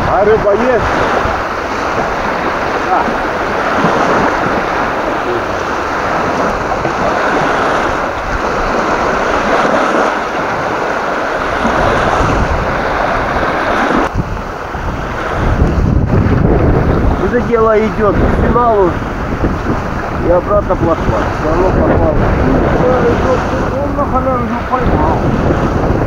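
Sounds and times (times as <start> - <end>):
water washing against shore: 0.0 - 26.0
wind buffeting microphone: 0.0 - 26.0.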